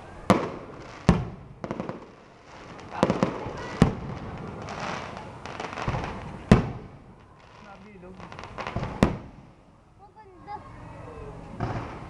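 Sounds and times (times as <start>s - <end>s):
fireworks bangs: 0.0s - 9.6s, 11.5s - 12.0s
fireworks crackling: 0.0s - 10.6s, 11.5s - 12.0s
fireworks popping: 0.3s - 9.6s, 11.5s - 12.0s.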